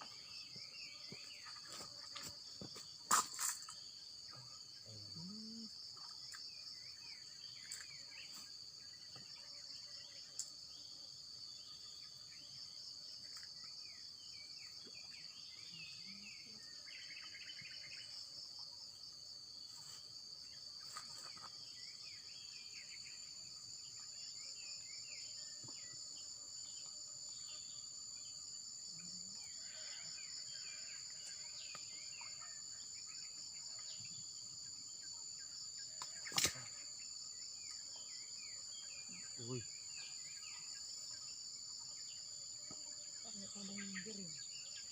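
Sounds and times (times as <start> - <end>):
insect chorus trilling: 0.0 - 44.9.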